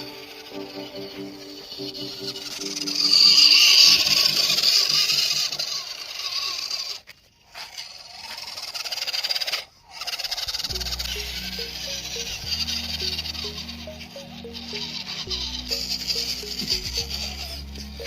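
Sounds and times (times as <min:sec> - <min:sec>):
small electric motor and gears: 0:00.0 - 0:18.0.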